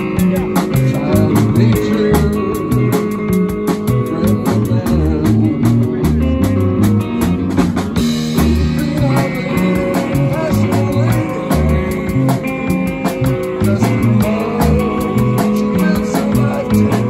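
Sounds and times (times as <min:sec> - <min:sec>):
drum kit beat: 0:00.0 - 0:17.0
electric bass: 0:00.0 - 0:17.0
electric guitar: 0:00.0 - 0:17.0.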